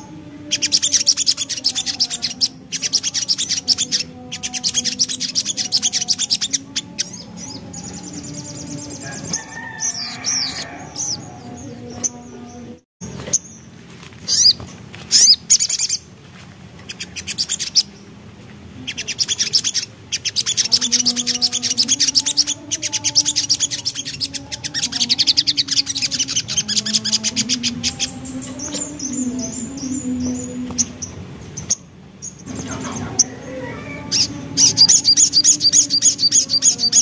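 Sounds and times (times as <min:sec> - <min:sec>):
bird chirping and trilling: 0:00.0 - 0:16.1, 0:16.8 - 0:18.1, 0:18.8 - 0:37.0.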